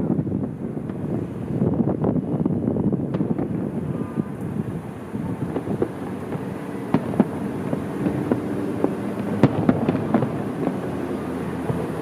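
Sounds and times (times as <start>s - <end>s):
fireworks bangs and pops: 0.0s - 12.0s
low background rumble: 0.0s - 12.0s.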